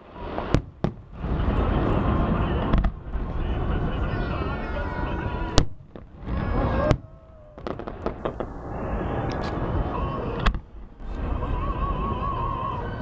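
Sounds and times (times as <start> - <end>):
fireworks cracking and popping: 0.0 - 4.6, 5.2 - 11.6.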